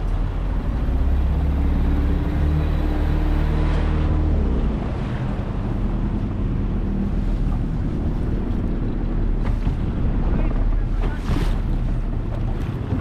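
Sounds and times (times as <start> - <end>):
outboard motor running: 0.0 - 13.0
water noise: 0.0 - 13.0
wind on microphone: 0.0 - 13.0.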